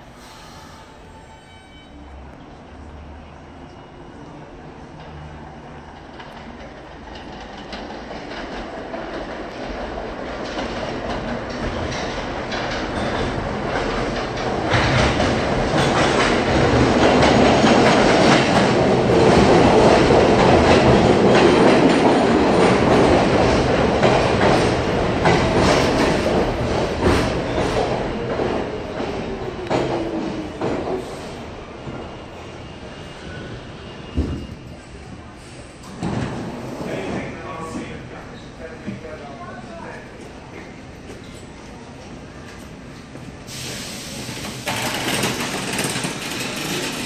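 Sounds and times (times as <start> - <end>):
subway train approaching: 0.0 - 47.0.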